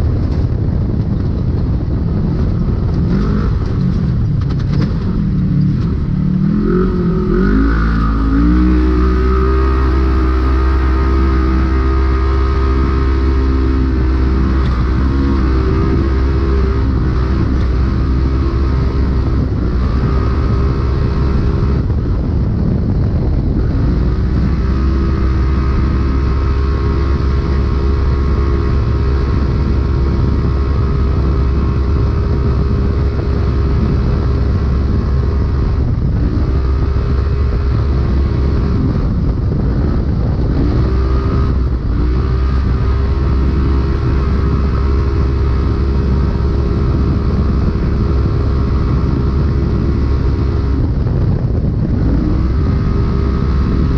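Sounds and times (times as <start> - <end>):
chassis and terrain noise: 0.0 - 53.9
engine running hard: 0.0 - 53.9.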